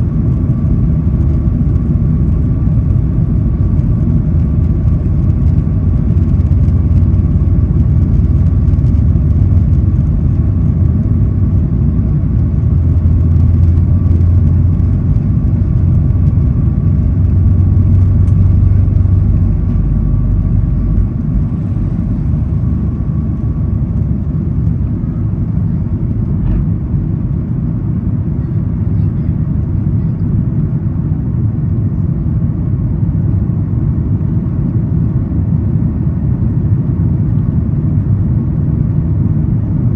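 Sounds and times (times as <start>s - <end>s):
faint engine whine: 0.0s - 39.9s
jet engine rumble in cabin: 0.0s - 39.9s.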